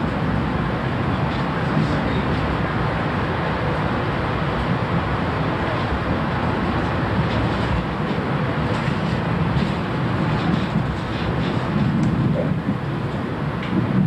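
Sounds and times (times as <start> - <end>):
train coach rumble and rail noise: 0.0 - 14.0.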